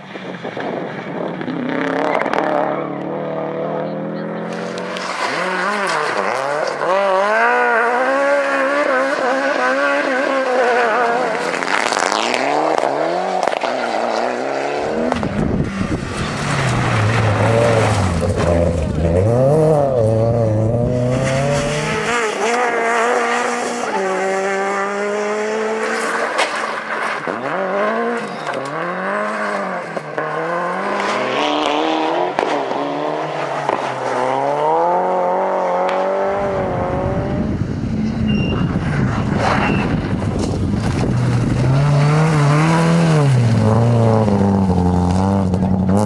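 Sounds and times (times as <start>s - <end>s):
rally car engines revving: 0.0s - 46.0s.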